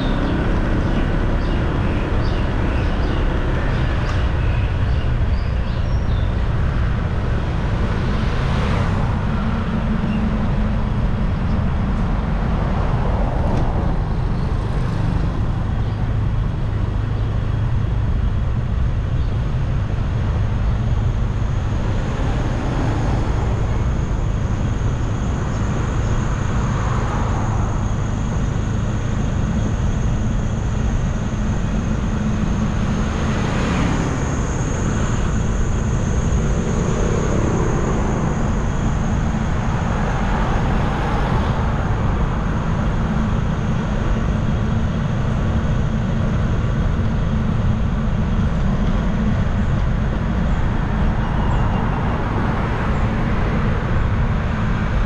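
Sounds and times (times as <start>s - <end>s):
road and wind noise: 0.0s - 55.0s
vehicles passing: 0.0s - 55.0s.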